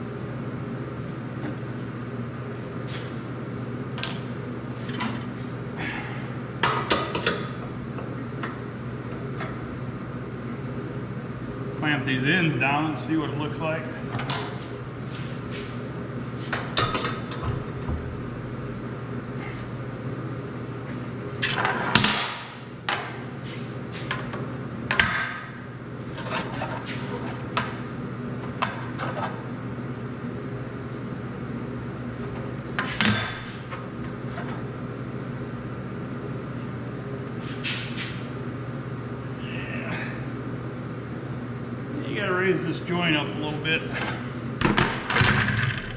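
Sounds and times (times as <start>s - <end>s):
steady background hum: 0.0s - 45.9s.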